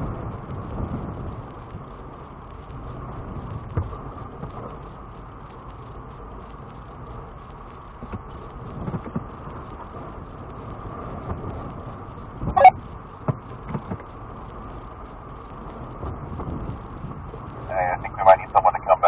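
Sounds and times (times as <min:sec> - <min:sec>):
engine and drivetrain rumble: 0:00.0 - 0:19.0.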